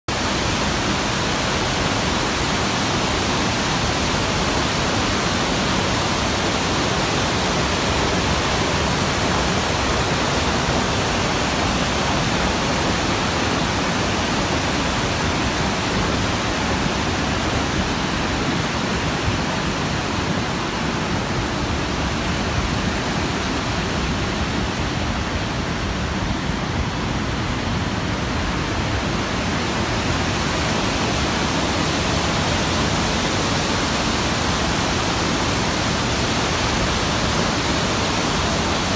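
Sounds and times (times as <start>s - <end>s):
waterfall rushing: 0.1s - 38.9s.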